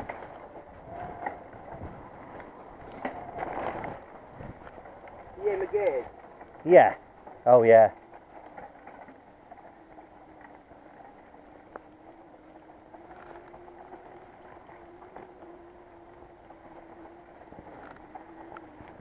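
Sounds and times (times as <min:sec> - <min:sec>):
bike clicks and rattles: 0:00.0 - 0:19.0
bike tyres on dirt trail: 0:00.0 - 0:19.0
electric motor whine: 0:00.0 - 0:19.0.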